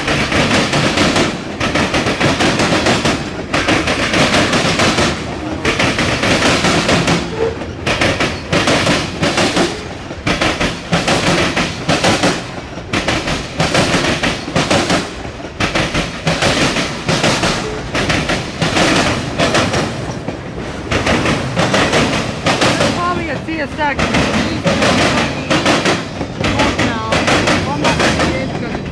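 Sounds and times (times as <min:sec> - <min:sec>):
train wheels clattering over rail joints: 0:00.0 - 0:28.9.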